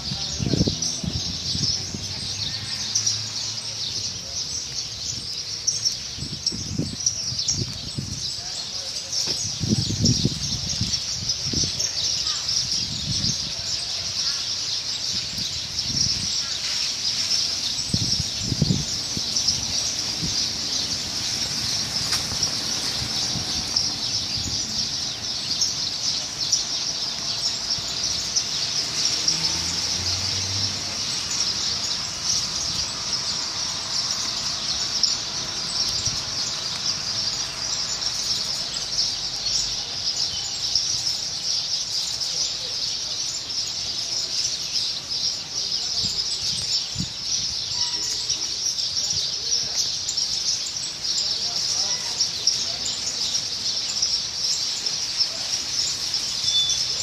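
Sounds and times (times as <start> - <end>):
many birds chirping: 0.0 - 57.0.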